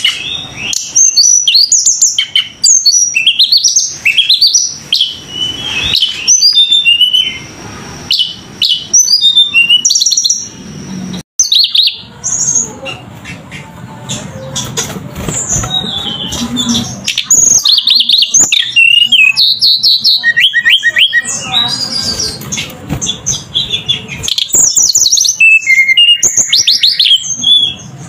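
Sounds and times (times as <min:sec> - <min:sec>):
bird singing: 0:00.0 - 0:28.0.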